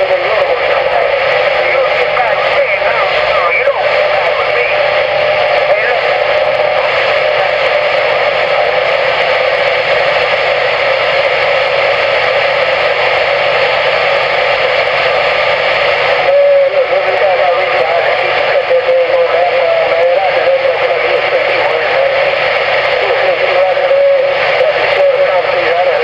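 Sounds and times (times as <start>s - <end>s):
faint garbled radio signal: 0.0s - 26.0s
radio static hiss: 0.0s - 26.0s.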